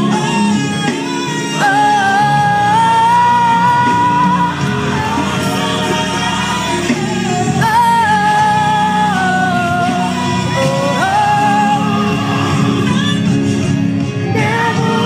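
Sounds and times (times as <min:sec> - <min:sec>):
instrumental backing: 0:00.0 - 0:15.0
person singing worship song: 0:00.0 - 0:15.0.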